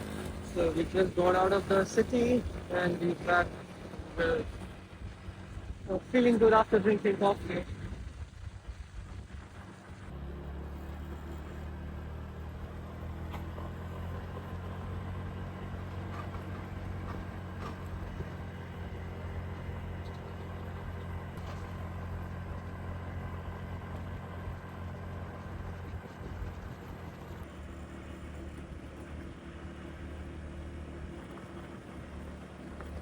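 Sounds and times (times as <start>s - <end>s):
motorbike engine running: 0.0s - 33.0s.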